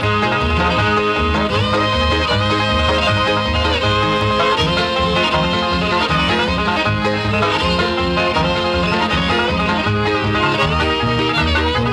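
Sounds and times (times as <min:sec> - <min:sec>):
bluegrass banjo and guitar music: 0:00.0 - 0:11.9.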